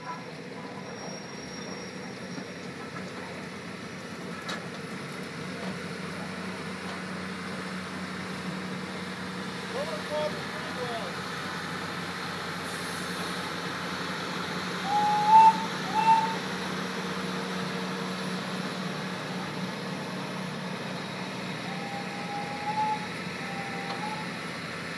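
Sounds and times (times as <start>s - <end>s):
train cars rolling on track: 0.0s - 24.9s.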